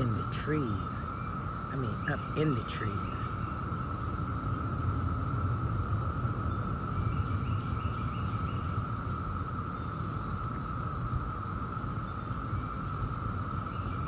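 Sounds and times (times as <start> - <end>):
faint chirps: 0.0 - 14.0
insect chorus drone: 0.0 - 14.0
low steady rumble: 0.0 - 14.0.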